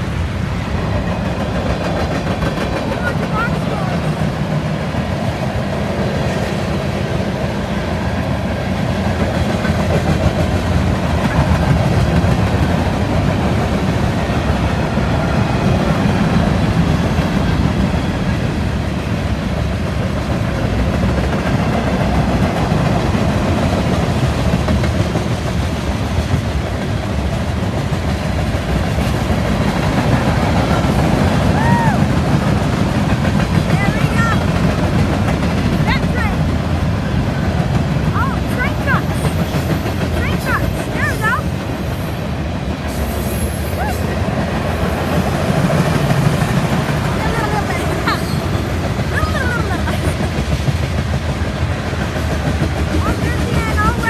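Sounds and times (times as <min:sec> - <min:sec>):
freight train rumbling on rails: 0:00.0 - 0:54.0.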